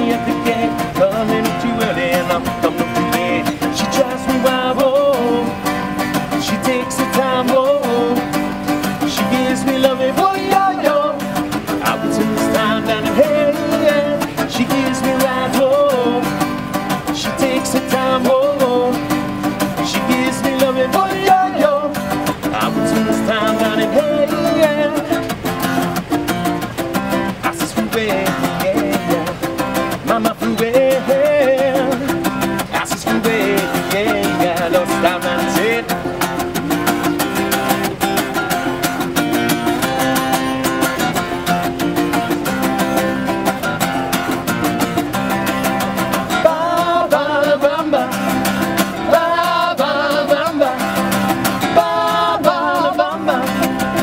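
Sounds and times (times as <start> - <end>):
acoustic guitar strumming: 0.0 - 54.0
voices singing: 0.0 - 54.0.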